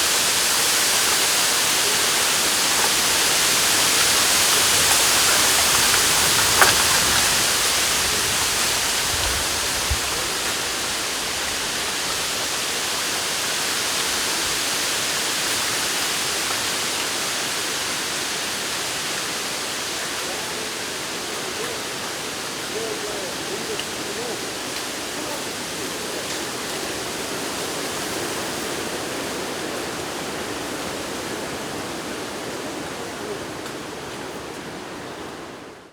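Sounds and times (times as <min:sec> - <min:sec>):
wind rustling bamboo leaves: 0:00.0 - 0:35.9.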